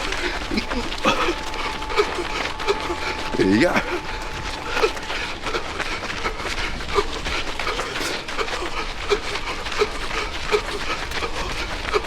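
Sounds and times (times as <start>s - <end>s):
laboured wheezing breathing: 0.0s - 12.0s.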